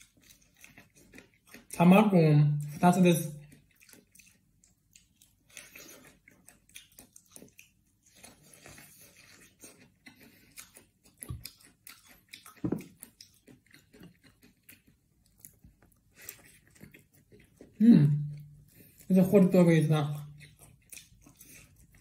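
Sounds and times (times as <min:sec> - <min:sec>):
person chewing corn on the cob: 0:00.0 - 0:01.8, 0:02.6 - 0:19.1, 0:20.1 - 0:22.0.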